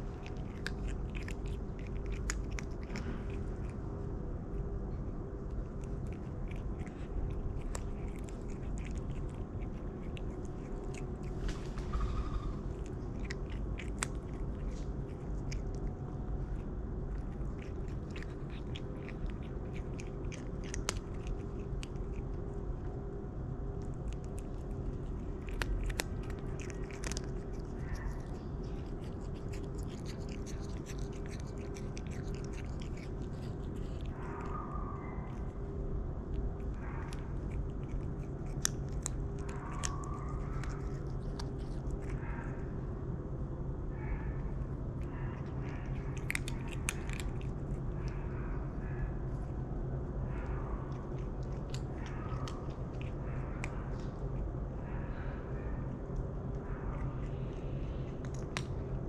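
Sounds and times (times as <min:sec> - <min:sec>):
cat crunching dry kibble: 0:00.0 - 0:42.8, 0:44.5 - 0:54.8, 0:55.8 - 0:59.0
steady low hum: 0:00.0 - 0:59.0.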